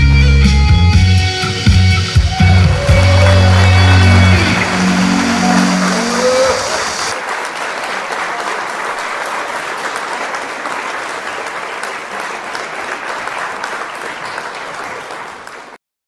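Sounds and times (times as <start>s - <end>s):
audience applauding: 2.0s - 15.8s.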